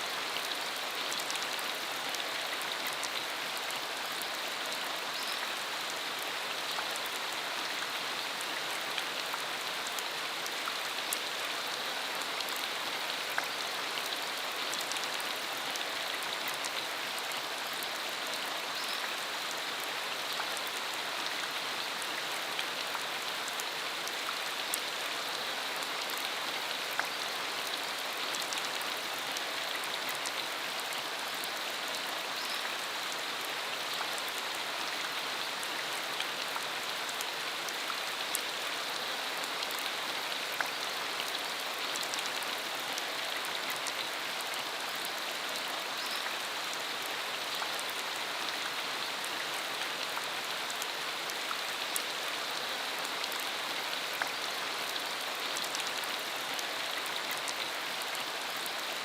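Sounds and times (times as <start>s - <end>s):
rain falling on ground: 0.0s - 59.0s.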